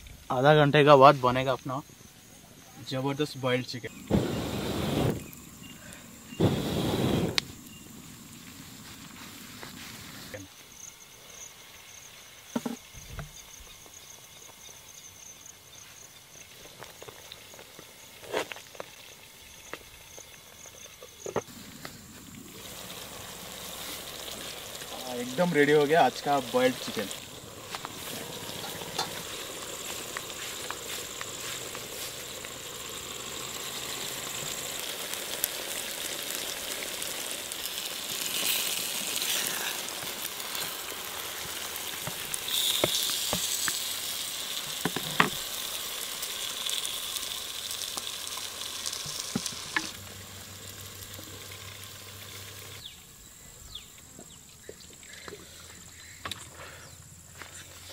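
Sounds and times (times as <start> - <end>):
sizzling hiss: 0.0 - 57.9.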